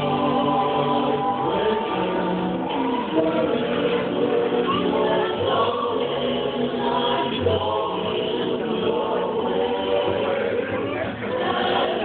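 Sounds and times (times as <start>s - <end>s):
choir singing slow chords: 0.0s - 12.0s.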